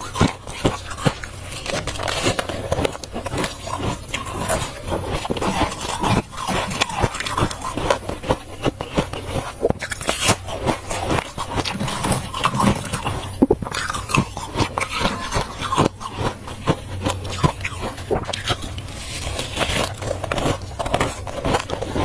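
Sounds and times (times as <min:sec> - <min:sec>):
frost crunching as scraped: 0:00.0 - 0:22.0.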